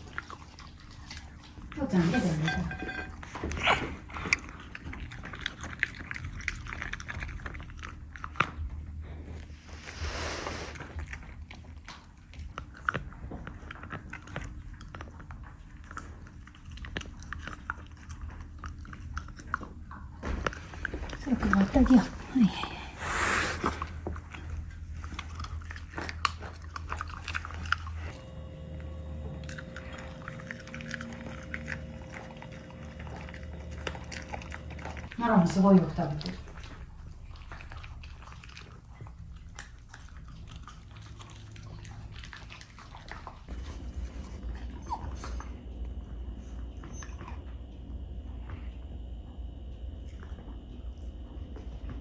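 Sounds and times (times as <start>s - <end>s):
dog chewing food: 0.0s - 52.0s.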